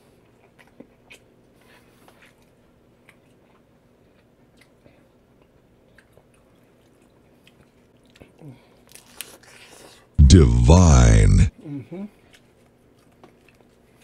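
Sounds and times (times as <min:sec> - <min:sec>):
mouth chewing fried food: 0:00.0 - 0:09.8, 0:12.2 - 0:14.0.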